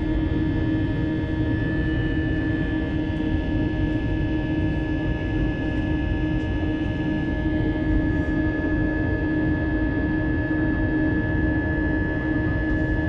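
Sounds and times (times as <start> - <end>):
jet engines in cabin: 0.0 - 13.0.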